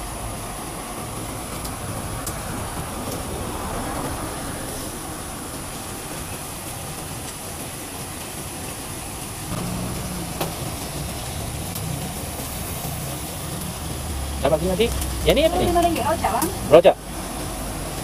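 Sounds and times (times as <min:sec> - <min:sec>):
road traffic: 0:00.0 - 0:18.0
vehicle engine hum: 0:00.0 - 0:18.0.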